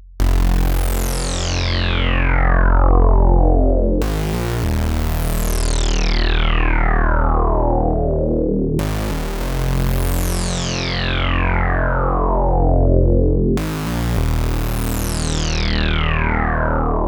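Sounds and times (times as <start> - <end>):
synthesizer chords with filter sweep: 0.1 - 17.0.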